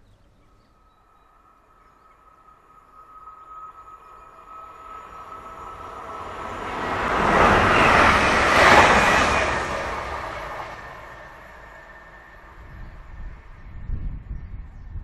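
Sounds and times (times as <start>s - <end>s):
train passing at speed: 0.4s - 15.0s.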